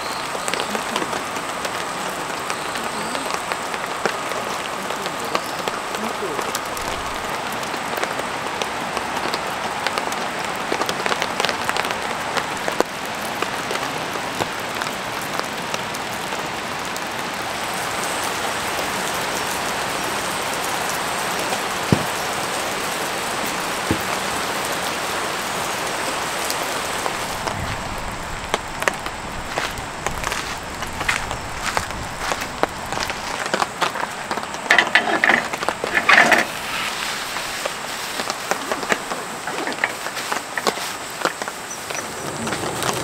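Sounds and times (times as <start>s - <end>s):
rain pattering: 0.0s - 43.0s
raindrops ticking: 0.0s - 43.0s.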